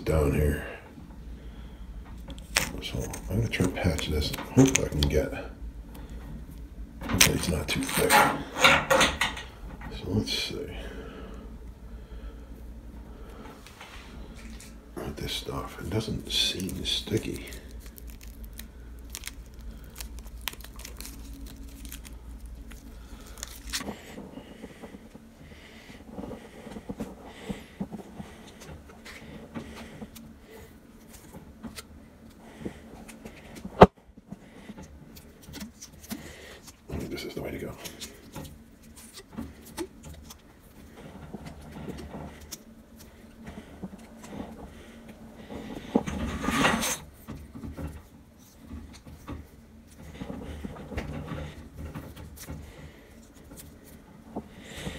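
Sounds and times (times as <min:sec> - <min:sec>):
tape peeling crackles and crinkles: 0:02.1 - 0:10.4, 0:13.6 - 0:54.9.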